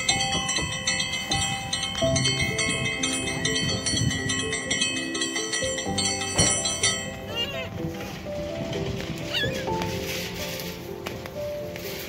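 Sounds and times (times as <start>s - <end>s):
music with bell-like chimes: 0.0s - 10.6s.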